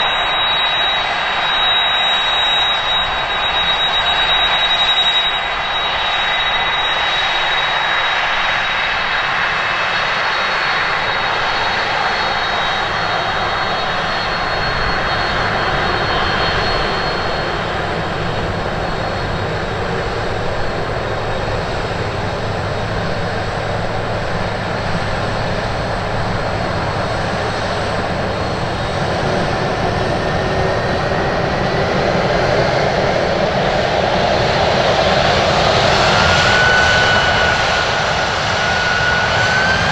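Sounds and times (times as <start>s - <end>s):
high turbine whine: 0.0s - 39.9s
jet engine roar: 0.0s - 39.9s.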